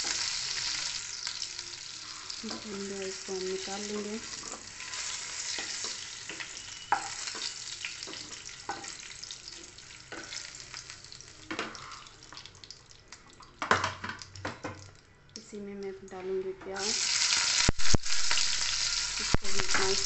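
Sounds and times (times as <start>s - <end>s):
hot oil sizzling: 0.0s - 14.4s, 16.8s - 20.0s.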